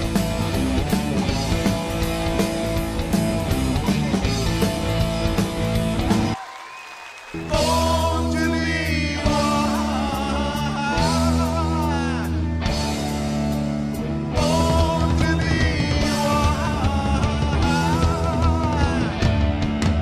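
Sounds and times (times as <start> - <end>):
blues rock band playing: 0.0 - 6.4, 7.4 - 20.0.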